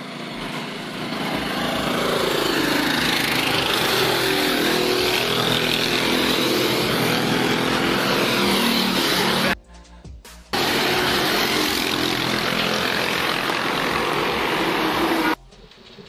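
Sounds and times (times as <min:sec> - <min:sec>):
motorcycles passing at speed: 0:00.0 - 0:09.6, 0:10.6 - 0:15.4.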